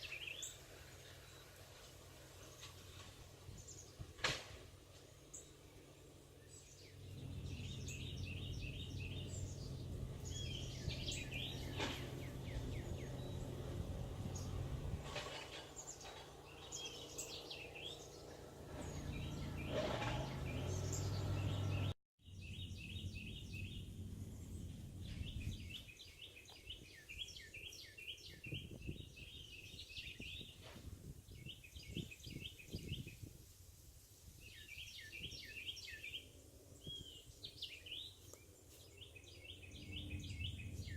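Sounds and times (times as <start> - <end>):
songbird chirping: 0.0 - 33.4, 34.3 - 40.9.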